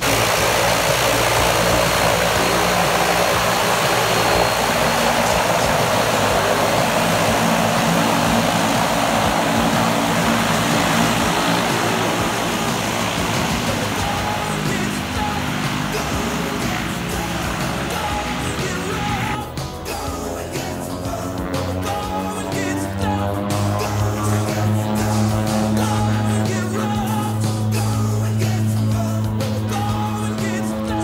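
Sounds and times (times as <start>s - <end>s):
turboprop engines running: 0.0s - 31.0s.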